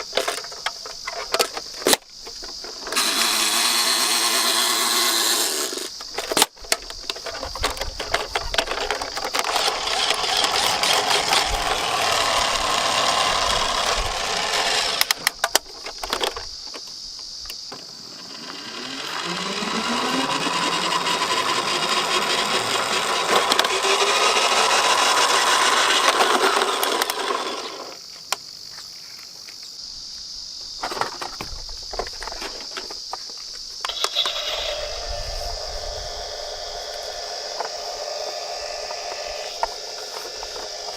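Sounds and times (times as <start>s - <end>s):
toy car wheels whirring: 0.0s - 16.4s, 18.0s - 28.0s, 33.8s - 40.9s
toy cars clicking and knocking: 0.0s - 16.9s, 17.5s - 28.4s, 30.8s - 34.8s, 36.8s - 40.9s.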